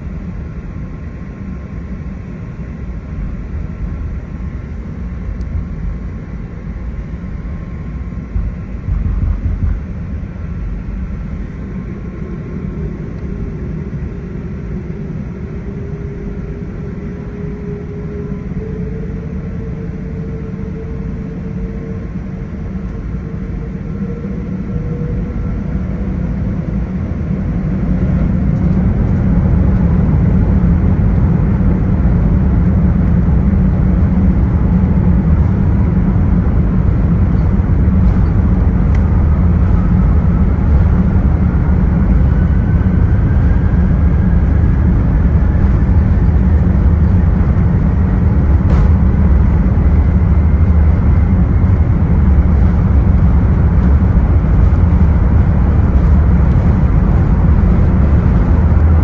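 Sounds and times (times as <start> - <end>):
airplane cabin rumble: 0.0 - 59.0
faint rising whine: 0.0 - 59.0.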